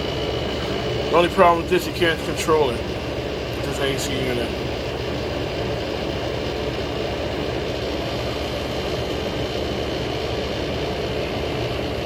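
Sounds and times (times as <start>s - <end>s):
window air conditioner running: 0.0s - 12.0s.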